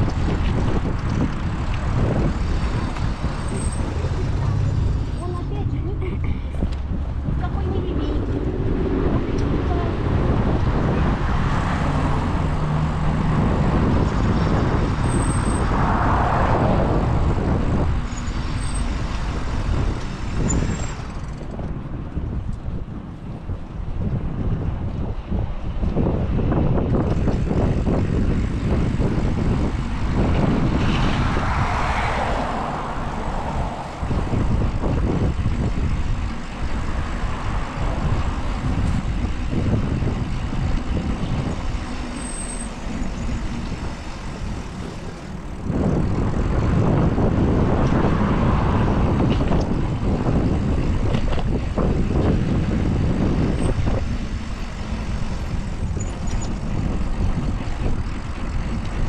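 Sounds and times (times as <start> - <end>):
vehicles passing: 0.0 - 59.0
wind buffeting microphone: 0.0 - 59.0.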